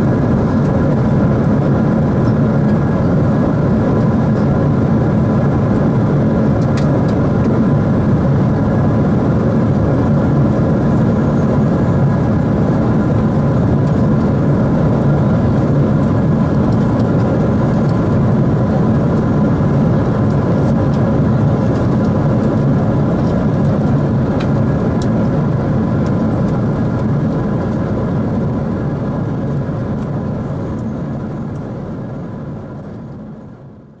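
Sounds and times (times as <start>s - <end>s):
jet cabin air and engine noise: 0.0s - 34.0s.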